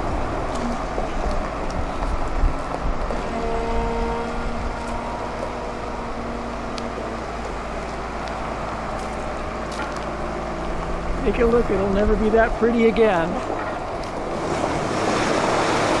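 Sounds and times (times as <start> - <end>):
boat mover engine drone: 0.0 - 16.0.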